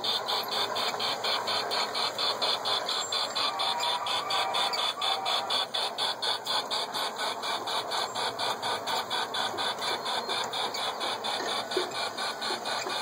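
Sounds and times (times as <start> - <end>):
model train clicking on track: 0.0 - 13.0.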